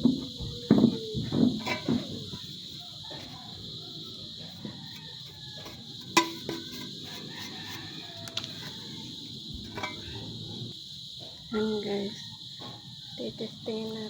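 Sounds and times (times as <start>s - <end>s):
rooster crowing: 0.0s - 10.7s, 11.5s - 13.3s.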